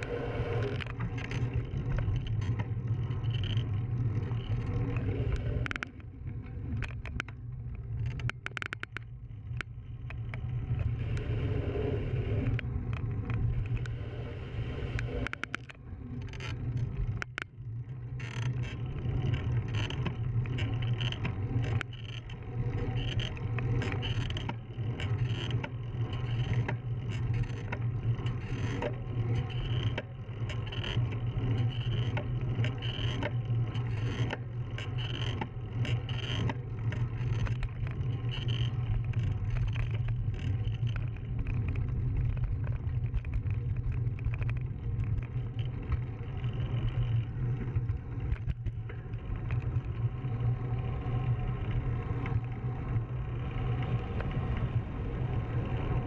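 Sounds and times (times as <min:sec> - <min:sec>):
wind and tyre noise: 0:00.0 - 0:56.0
bicycle clicks and rattles: 0:00.6 - 0:06.1, 0:06.7 - 0:10.4, 0:15.0 - 0:56.0.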